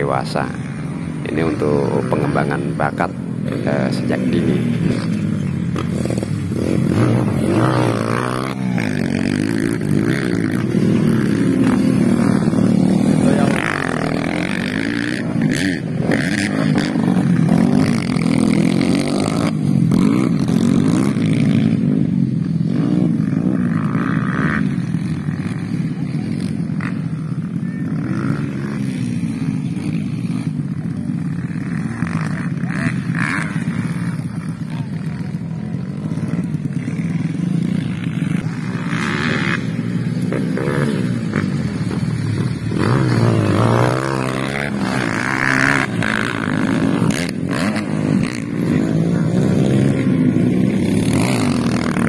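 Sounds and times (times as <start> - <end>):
motorcycle engines revving: 0.0 - 52.0.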